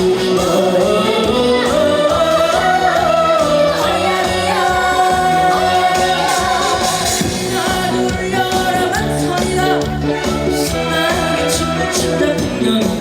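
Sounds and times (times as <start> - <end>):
trot song with band and singing: 0.0 - 13.0.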